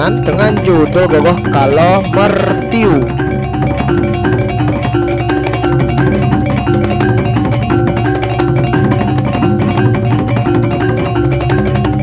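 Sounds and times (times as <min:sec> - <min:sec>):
music with tuned percussion: 0:00.0 - 0:12.0.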